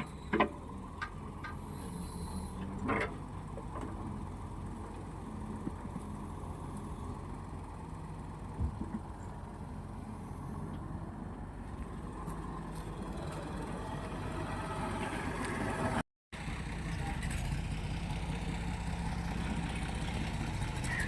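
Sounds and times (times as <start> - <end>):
engine running at low speed: 0.0 - 21.0.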